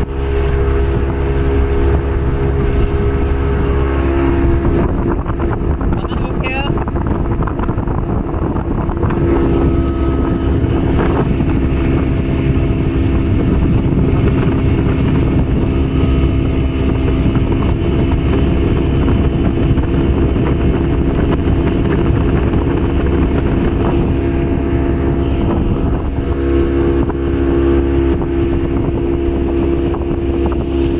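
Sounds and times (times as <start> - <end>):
outboard motor running: 0.0 - 30.9
wind buffeting microphone: 0.0 - 30.9.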